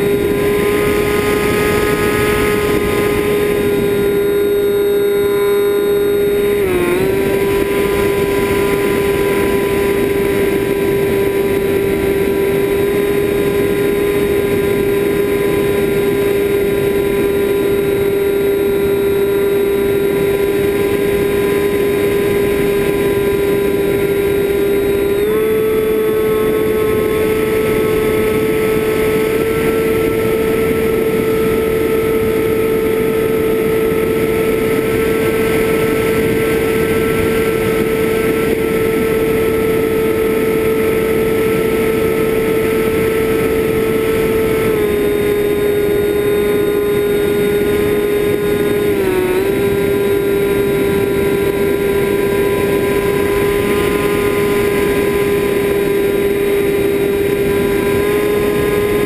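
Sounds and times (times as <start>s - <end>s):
drone propellers whining: 0.0s - 59.0s.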